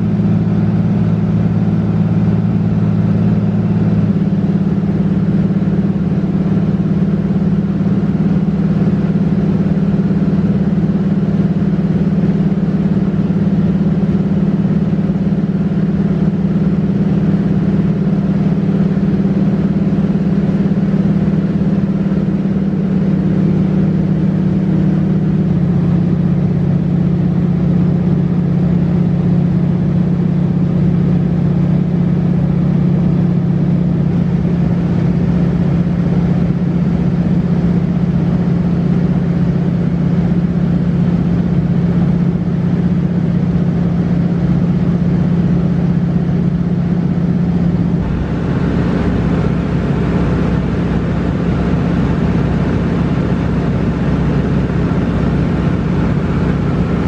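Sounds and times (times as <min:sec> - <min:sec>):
airplane engine droning in cabin: 0:00.0 - 0:57.0.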